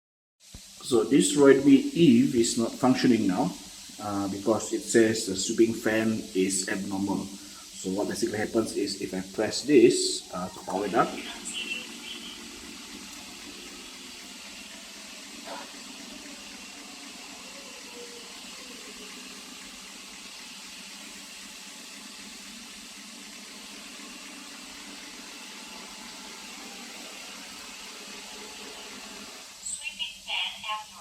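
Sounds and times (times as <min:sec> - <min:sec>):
robot vacuum whirring: 0:00.6 - 0:30.8.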